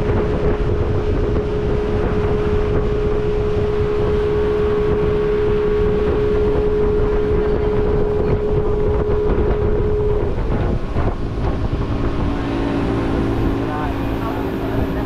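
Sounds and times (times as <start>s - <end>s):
motorboat engine humming: 0.0s - 15.0s
water rushing past hull: 0.0s - 15.0s
wind buffeting microphone: 0.0s - 15.0s.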